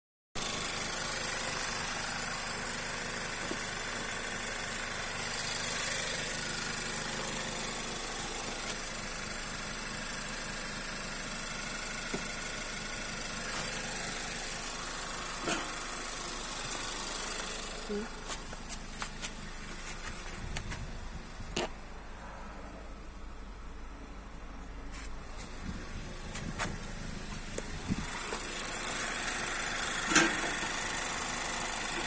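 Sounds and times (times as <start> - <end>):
car engine idling: 0.4 - 32.0.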